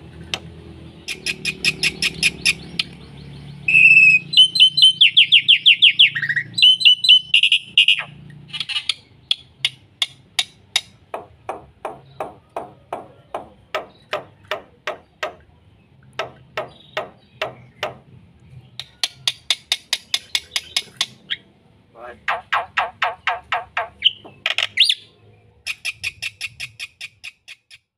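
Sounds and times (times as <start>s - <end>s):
bird singing: 0.0s - 27.9s.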